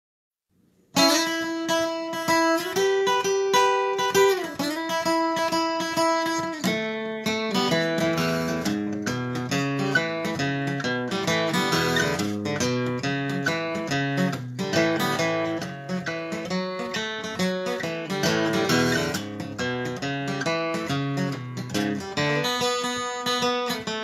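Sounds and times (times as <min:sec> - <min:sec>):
acoustic guitar blues: 0:00.9 - 0:24.0.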